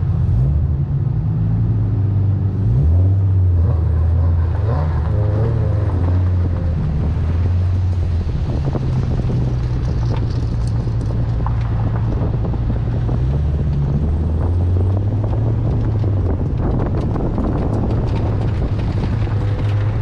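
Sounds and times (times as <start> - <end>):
car engine revving: 0.0 - 20.0
wind noise: 2.6 - 20.0.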